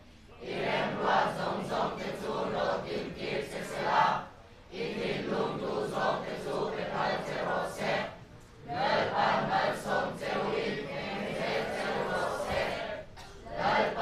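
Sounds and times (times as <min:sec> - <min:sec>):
congregation speaking in unison: 0:00.3 - 0:14.0.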